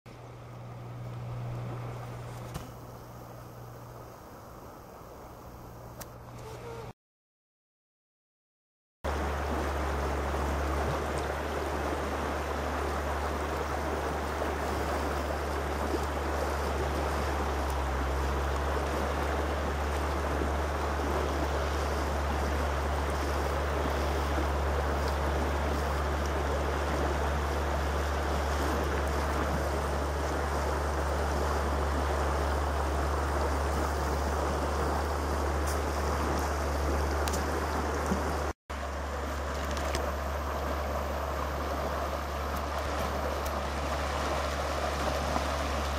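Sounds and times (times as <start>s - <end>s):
river water rushing: 9.1s - 45.9s.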